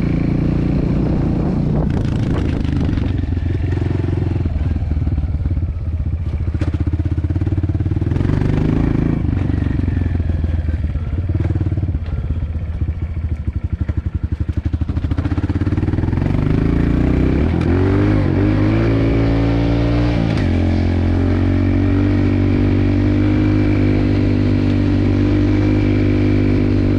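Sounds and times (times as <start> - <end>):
dirt bike engine revving: 0.0 - 5.6, 6.5 - 11.8, 14.8 - 26.9.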